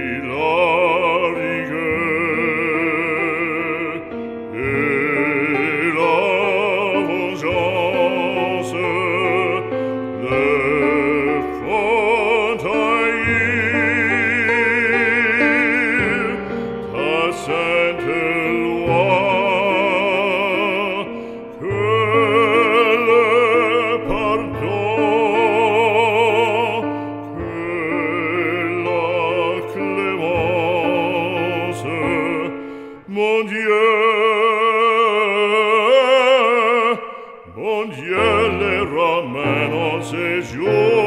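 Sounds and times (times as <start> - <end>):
sustained accompaniment: 0.0 - 33.6
operatic solo singing: 0.0 - 41.0.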